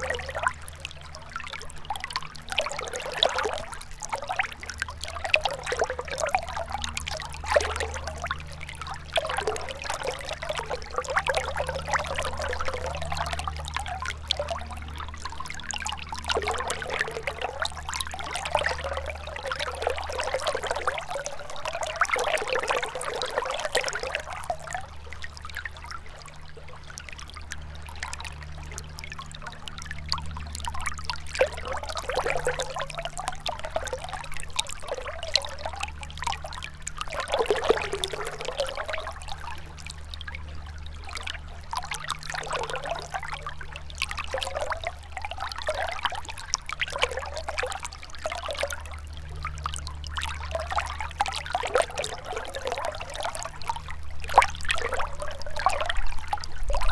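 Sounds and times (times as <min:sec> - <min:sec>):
river water trickling and gurgling: 0:00.0 - 0:56.9.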